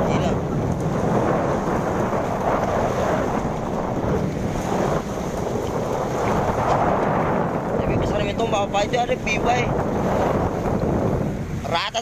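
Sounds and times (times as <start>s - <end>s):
rough sea waves: 0.0s - 12.0s
wind blasting across microphone: 0.0s - 12.0s.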